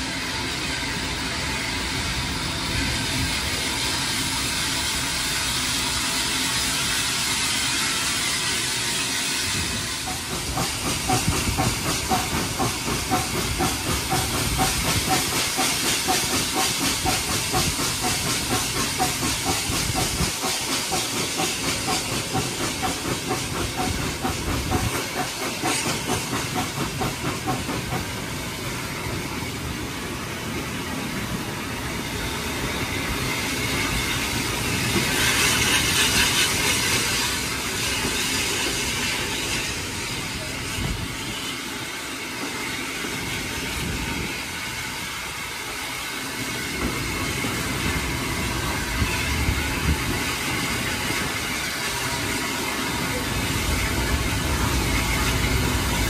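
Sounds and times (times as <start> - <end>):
steam hissing: 0.0 - 56.0
steam locomotive chuffing: 0.0 - 56.0.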